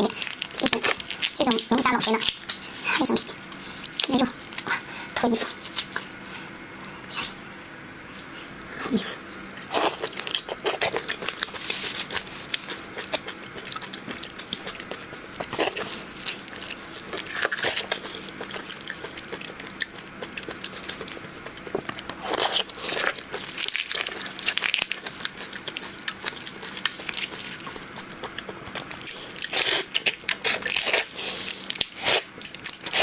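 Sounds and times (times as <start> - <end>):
person chewing shellfish: 0.0 - 6.2, 8.1 - 33.0.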